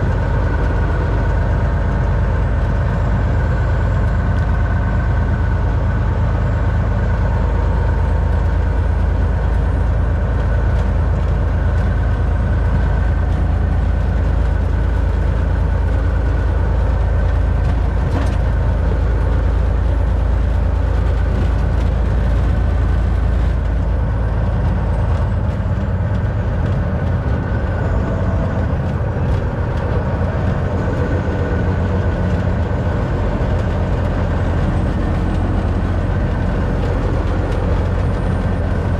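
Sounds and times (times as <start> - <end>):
diesel engine rumble: 0.0 - 38.9
road noise: 0.0 - 38.9.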